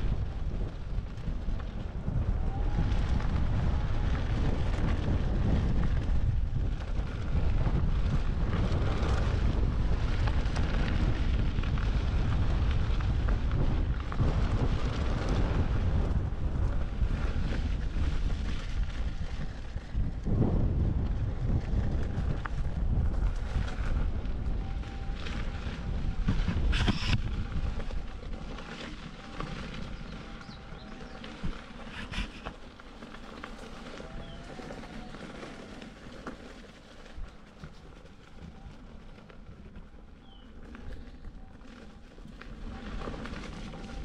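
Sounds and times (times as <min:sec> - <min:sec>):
tyre rolling over gravel: 0:00.0 - 0:44.0
wind buffeting microphone: 0:00.0 - 0:44.0.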